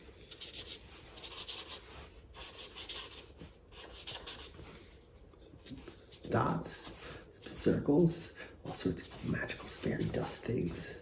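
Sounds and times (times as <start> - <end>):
marker scratching on paper: 0.0 - 7.6, 8.7 - 10.9.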